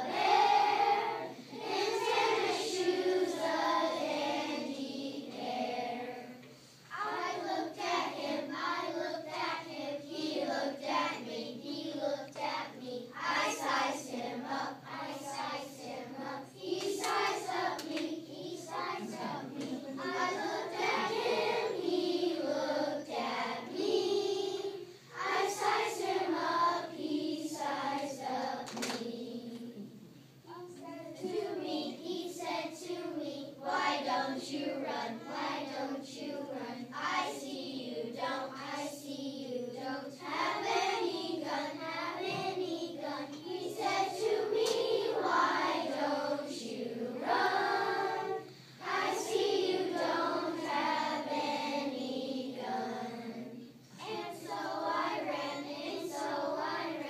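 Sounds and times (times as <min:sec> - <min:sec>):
children's choir singing: 0:00.0 - 0:29.9, 0:30.5 - 0:57.0.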